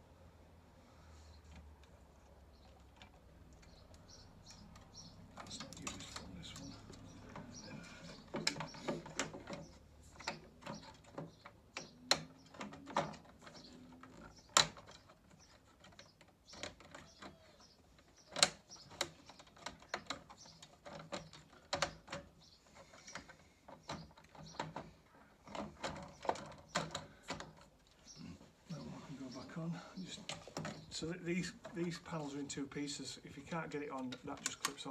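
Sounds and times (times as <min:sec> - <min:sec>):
parts clicking and knocking: 0:01.4 - 0:28.6, 0:29.4 - 0:34.9.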